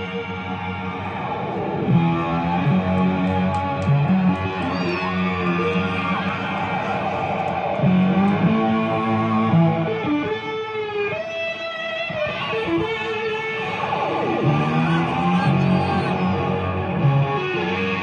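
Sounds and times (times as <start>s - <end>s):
electric guitar: 0.0s - 18.0s.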